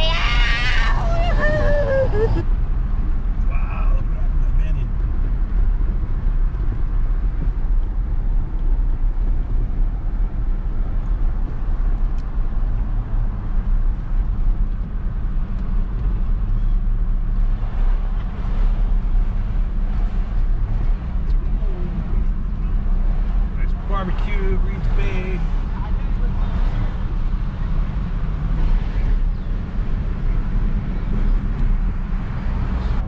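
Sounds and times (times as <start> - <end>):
vehicle rumble from inside cabin: 0.0 - 33.0.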